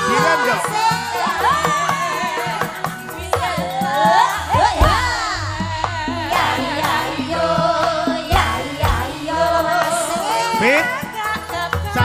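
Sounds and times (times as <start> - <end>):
instrumental accompaniment: 0.0 - 12.0
low drum beats: 0.0 - 12.0
woman singing into a microphone: 0.0 - 12.0.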